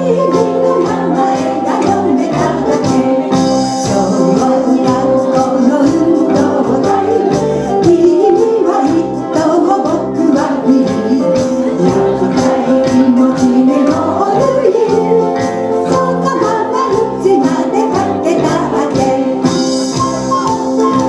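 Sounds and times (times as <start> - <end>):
drum kit beat: 0.0 - 21.0
live band with singers: 0.0 - 21.0.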